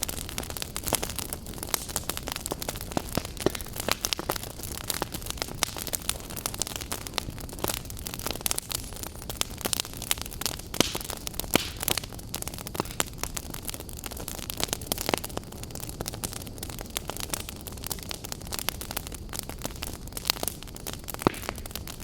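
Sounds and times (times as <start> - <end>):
fire crackling and hissing: 0.0 - 22.0.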